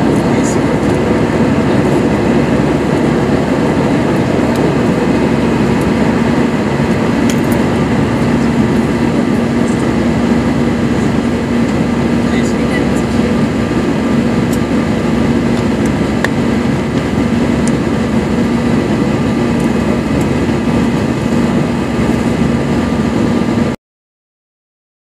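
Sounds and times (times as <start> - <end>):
jet engines humming in cabin: 0.0 - 23.8.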